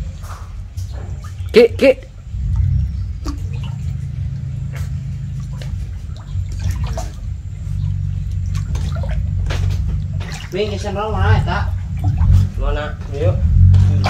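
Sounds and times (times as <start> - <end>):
steady low rumble: 0.0 - 14.0
water splashing and lapping: 0.0 - 14.0.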